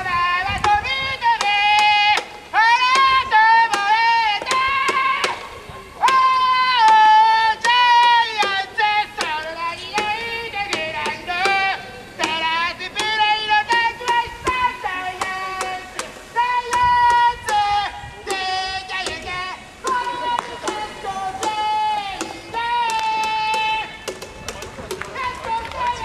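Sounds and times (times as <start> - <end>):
man singing a chant: 0.0 - 24.1
plastic megaphones clapping together: 1.4 - 26.0.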